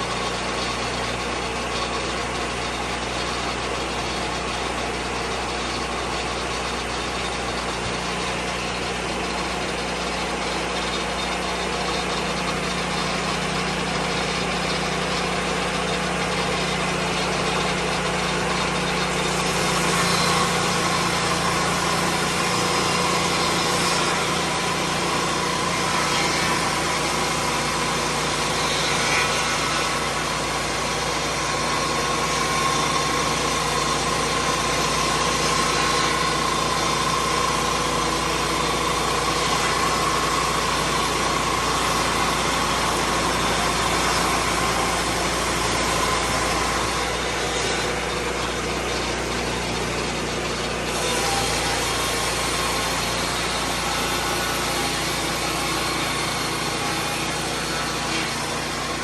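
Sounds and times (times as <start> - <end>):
sawmill engine and circular blade: 0.0 - 59.0.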